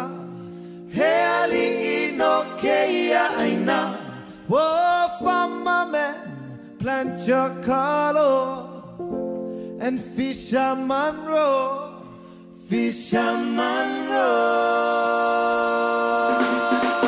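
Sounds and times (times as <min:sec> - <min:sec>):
person singing song: 0:00.0 - 0:09.0, 0:09.8 - 0:17.0.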